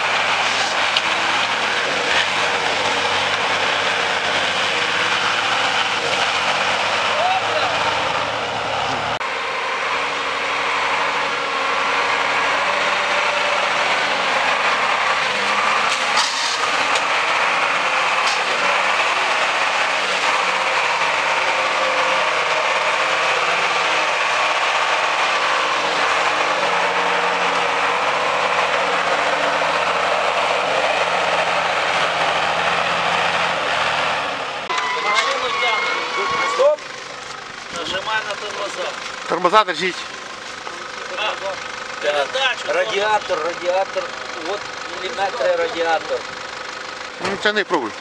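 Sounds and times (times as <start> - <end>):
truck engine under load: 0.0 - 48.0.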